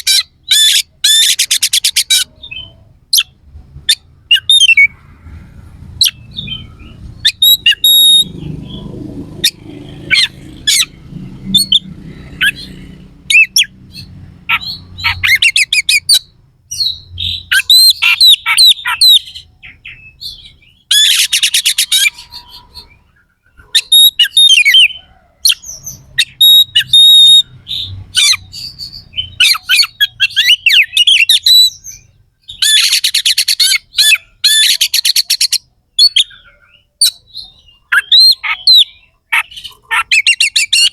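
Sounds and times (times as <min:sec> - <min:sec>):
bird singing harsh phrases: 0:00.0 - 0:40.9.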